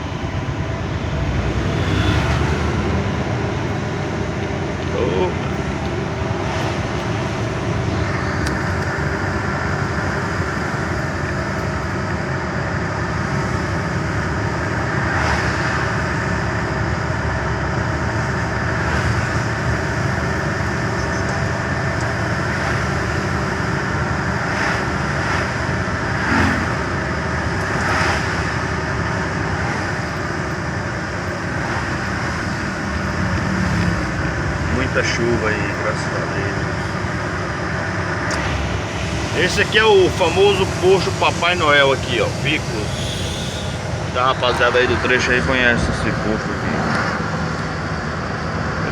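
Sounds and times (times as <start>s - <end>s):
truck engine and road noise: 0.0s - 48.9s.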